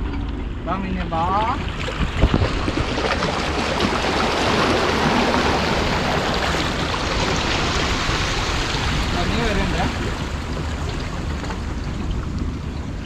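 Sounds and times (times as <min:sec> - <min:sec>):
waves splashing against rocks: 0:01.6 - 0:12.7.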